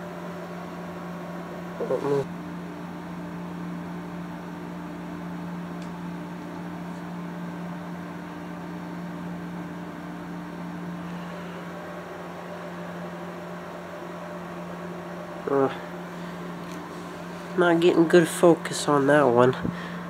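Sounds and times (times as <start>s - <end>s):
higher hum tone: 0.0s - 20.0s
low electrical hum: 0.0s - 20.0s.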